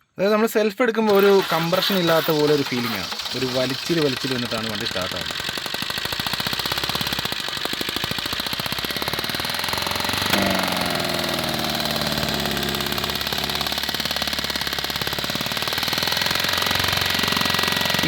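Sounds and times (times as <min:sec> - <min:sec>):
diesel engine knocking: 0:01.4 - 0:18.0.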